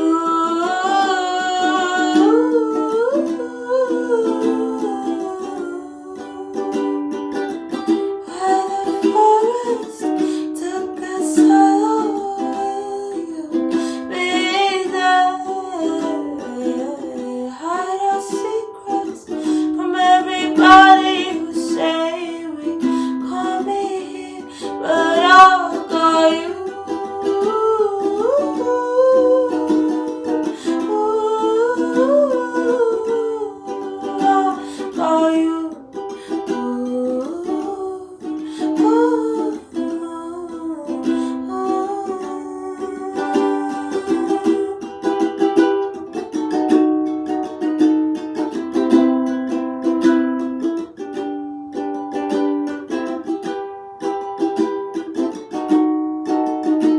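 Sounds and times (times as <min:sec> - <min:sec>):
wordless singing with vibrato: 0:00.0 - 0:46.3
ukulele chords: 0:00.0 - 0:56.9.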